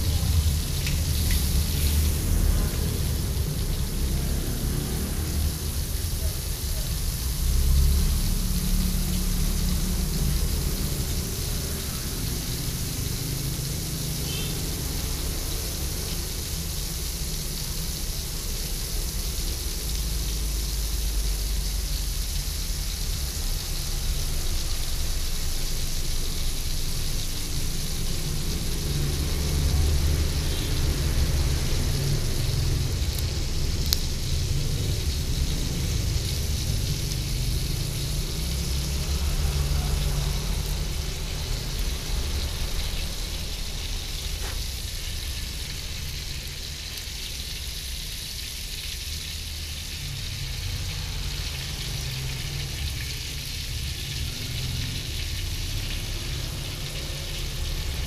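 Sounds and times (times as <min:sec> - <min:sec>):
fat hissing in pan: 0:00.0 - 0:58.0
gas burner rumbling: 0:00.0 - 0:58.0.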